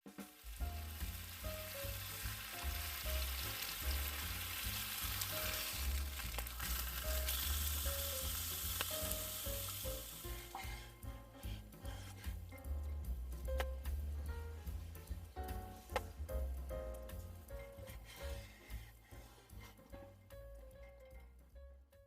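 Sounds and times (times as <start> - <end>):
background music with bass: 0.0 - 22.0
steak sizzling over fire: 0.1 - 20.9.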